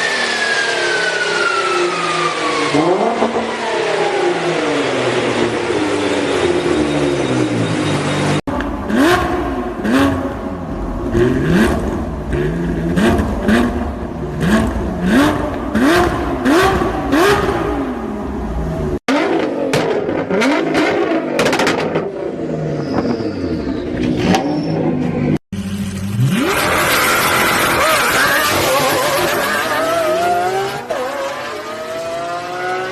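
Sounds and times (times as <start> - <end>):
car engine revving: 0.0 - 32.9.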